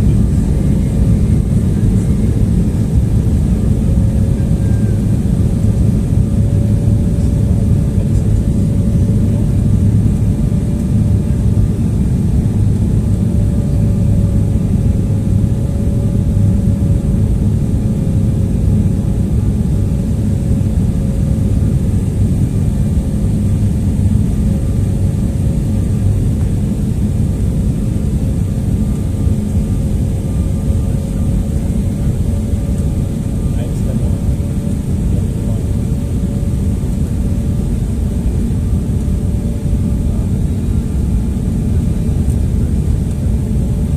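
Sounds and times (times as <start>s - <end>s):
constant whine: 0.0s - 43.9s
jet engine and airflow rumble: 0.0s - 43.9s.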